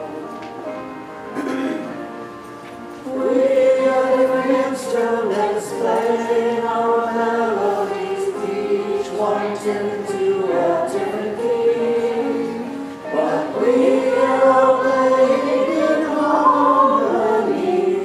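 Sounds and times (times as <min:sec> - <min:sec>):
group singing a hymn: 0:03.0 - 0:18.0.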